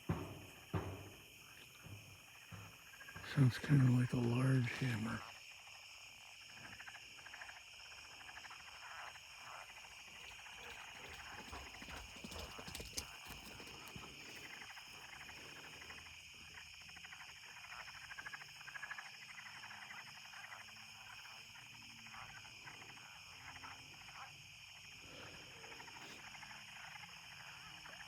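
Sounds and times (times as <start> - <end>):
faint frog calls: 0.0 - 28.0
insects buzzing: 0.0 - 28.0.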